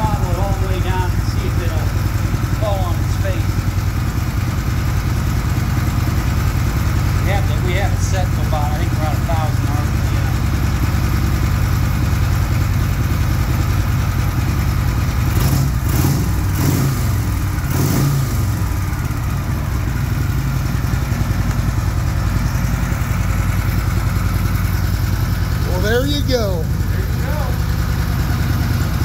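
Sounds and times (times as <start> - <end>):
motorcycle engine idling with throttle blips: 0.0 - 29.0.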